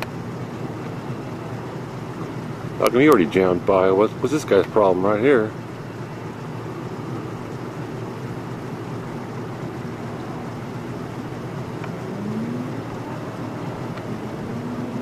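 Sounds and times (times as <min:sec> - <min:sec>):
distant engines rumbling: 0:00.0 - 0:15.0
faint hum rising in pitch: 0:00.0 - 0:15.0.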